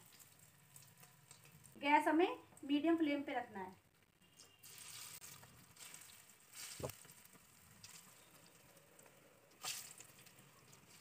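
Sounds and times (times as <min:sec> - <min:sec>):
oil sizzling while deep-frying: 0:00.0 - 0:02.7, 0:04.4 - 0:11.0.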